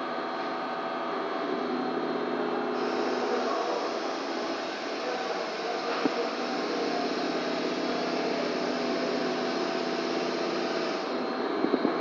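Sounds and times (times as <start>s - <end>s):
machinery humming and hissing: 0.0s - 12.0s.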